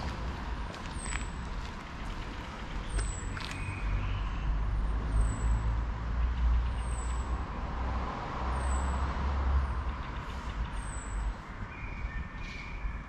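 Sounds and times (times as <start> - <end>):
vehicle engine rumble: 0.0 - 11.3.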